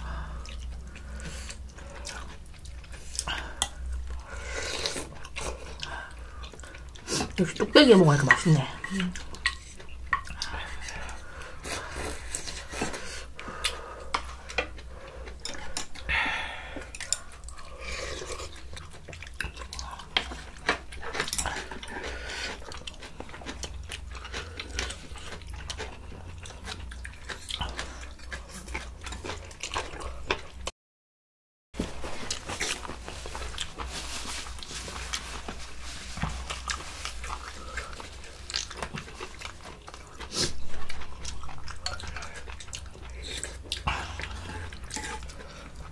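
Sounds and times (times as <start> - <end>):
chewing: 0.0 - 7.7, 8.3 - 30.7, 32.1 - 45.9.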